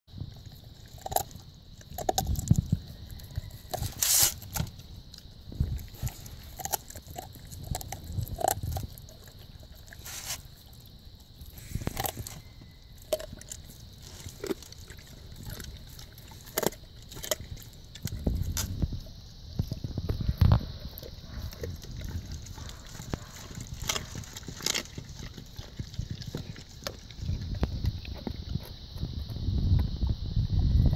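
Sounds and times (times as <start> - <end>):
dog chewing and crunching: 0.1 - 29.9.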